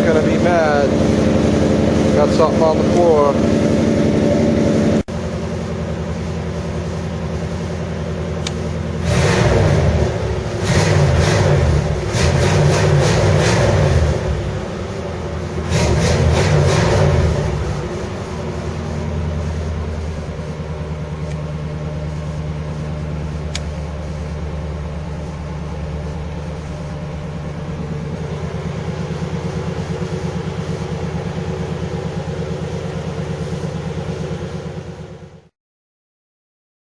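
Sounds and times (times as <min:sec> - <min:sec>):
car engine idling: 0:00.0 - 0:35.5.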